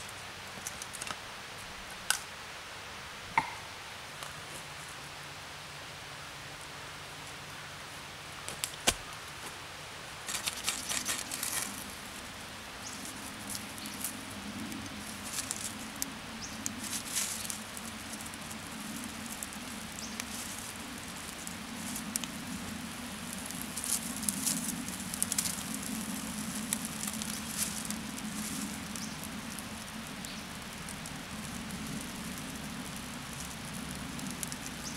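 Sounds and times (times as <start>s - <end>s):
twigs crackling in campfire: 0.0s - 2.4s, 8.3s - 34.9s.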